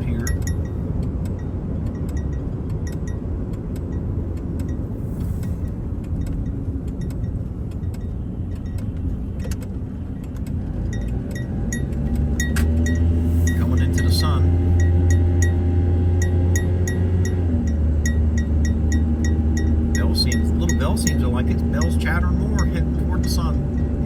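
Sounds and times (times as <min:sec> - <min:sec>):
vehicle road and engine rumble: 0:00.0 - 0:24.0.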